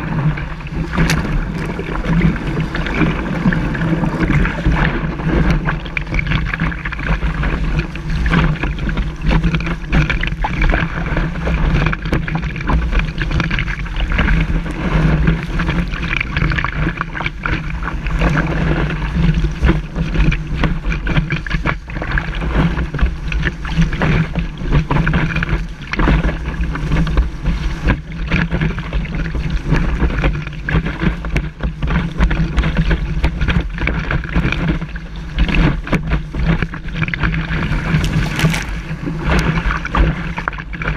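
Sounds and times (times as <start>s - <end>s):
wind buffeting camera: 0.0s - 26.1s, 32.2s - 40.9s
water rushing against board: 0.0s - 40.9s.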